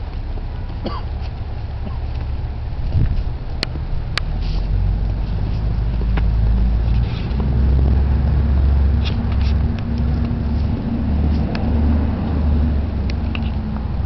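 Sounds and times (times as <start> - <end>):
loud low rumble: 0.0 - 14.0.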